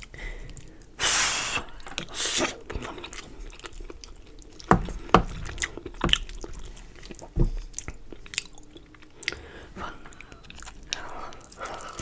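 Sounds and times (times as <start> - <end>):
wet chewing with mouth smacks: 1.6 - 12.0.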